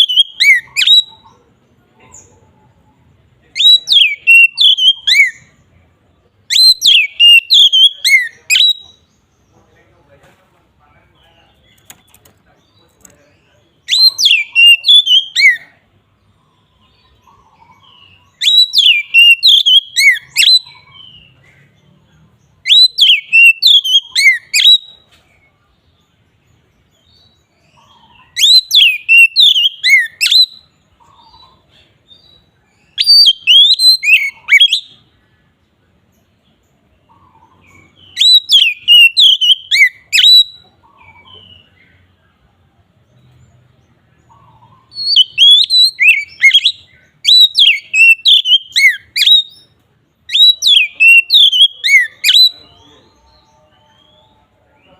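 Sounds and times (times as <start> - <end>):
bird singing rapid whistled notes: 0.0 - 1.4, 3.5 - 9.8, 11.2 - 15.8, 16.5 - 25.1, 26.0 - 35.3, 36.1 - 42.1, 43.1 - 54.9.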